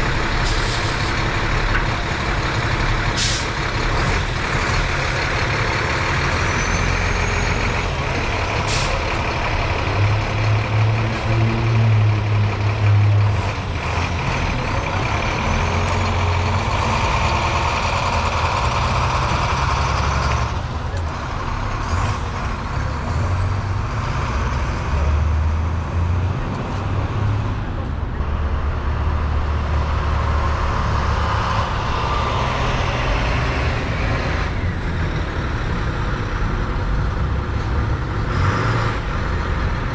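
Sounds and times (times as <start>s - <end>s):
heavy diesel equipment working: 0.0s - 39.9s.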